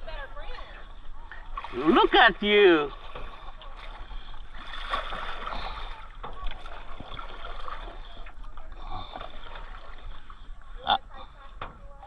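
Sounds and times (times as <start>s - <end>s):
paddles splashing in water: 0.0s - 11.9s.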